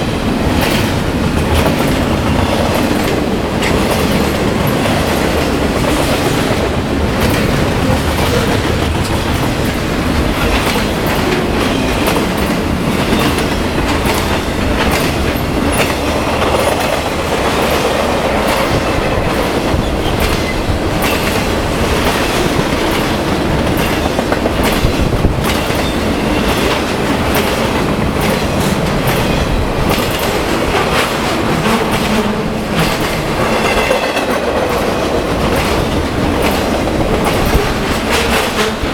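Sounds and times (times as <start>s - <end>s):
steel wheels rumbling on rail: 0.0s - 38.9s
wheels clicking over rail joints: 0.0s - 38.9s.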